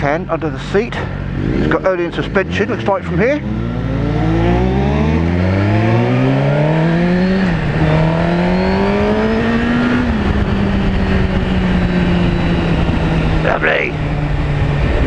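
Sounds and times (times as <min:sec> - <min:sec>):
motorcycle engine accelerating hard: 0:00.0 - 0:15.0.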